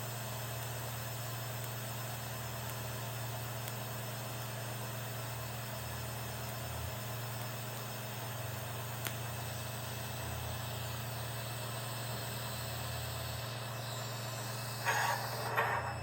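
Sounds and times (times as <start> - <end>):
welding arc humming and hissing: 0.0 - 16.0.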